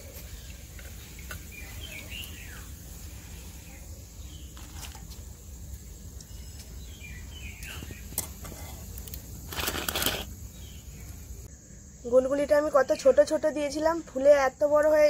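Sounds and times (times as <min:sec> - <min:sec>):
birds chirping: 0:00.0 - 0:14.1.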